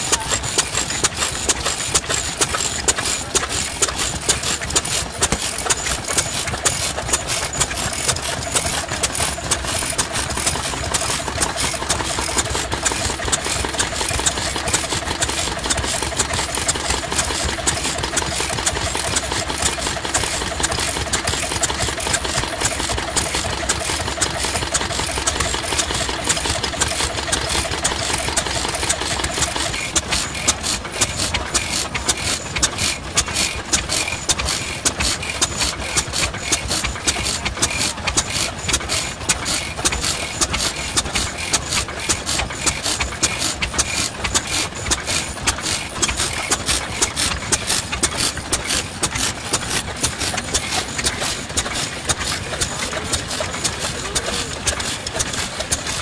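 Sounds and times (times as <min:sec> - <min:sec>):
old stationary engine running: 0:00.0 - 0:56.0
stationary oil engine running: 0:00.0 - 0:56.0.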